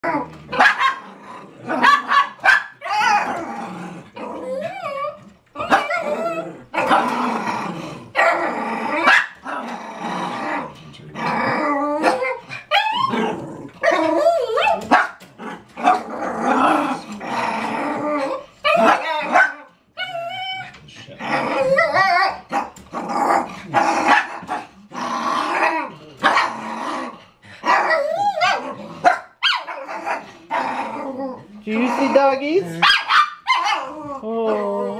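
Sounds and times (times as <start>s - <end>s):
small dogs barking and whining: 0.0s - 34.9s.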